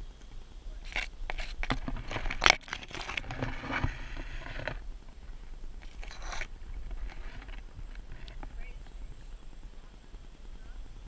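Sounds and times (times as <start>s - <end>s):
leaves rustling and scraping: 0.0s - 11.0s
twigs cracking: 0.2s - 9.7s.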